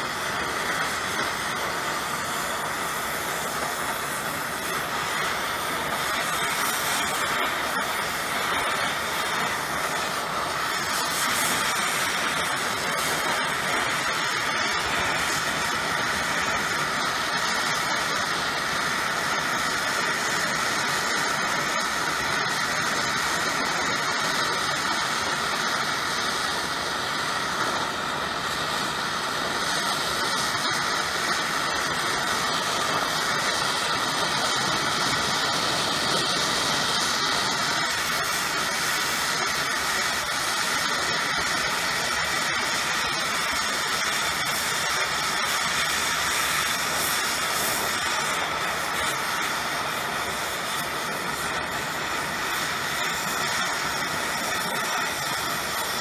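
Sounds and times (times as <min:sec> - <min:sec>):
gas torch flame hissing: 0:00.0 - 0:56.0.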